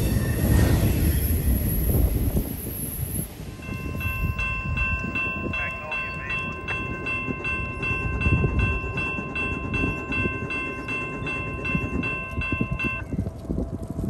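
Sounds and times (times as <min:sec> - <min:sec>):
crossing bell ringing rapidly: 0:00.0 - 0:13.3
freight train rumbling past: 0:00.0 - 0:14.0.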